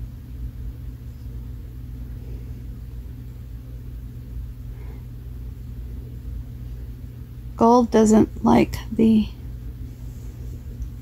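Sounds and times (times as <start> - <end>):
steady low hum and rumble: 0.0 - 11.0.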